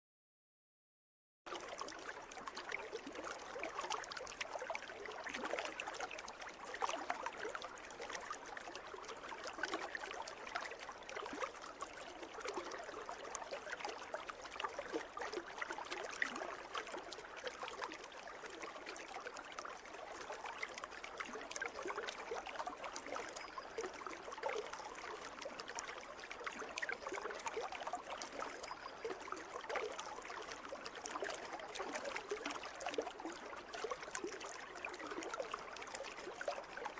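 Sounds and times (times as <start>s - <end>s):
water trickling and splashing: 1.5s - 36.9s.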